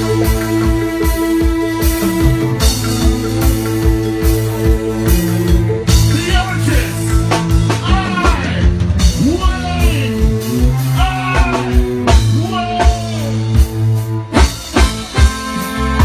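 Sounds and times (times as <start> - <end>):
bass line: 0.0 - 16.0
drum kit beat: 0.0 - 16.0.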